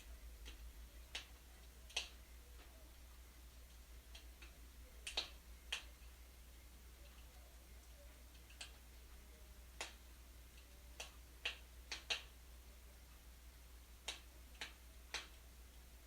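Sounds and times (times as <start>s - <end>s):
faint low hum: 0.0s - 16.0s
wood fire crackling: 0.0s - 16.0s.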